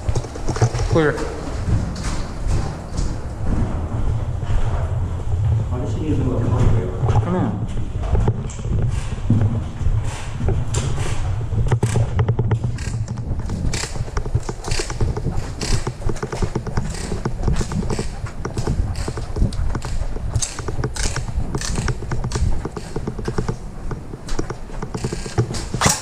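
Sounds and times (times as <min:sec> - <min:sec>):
low rumble: 0:00.0 - 0:25.9
footsteps: 0:00.0 - 0:26.0
gear knocking and rattling: 0:00.0 - 0:26.0.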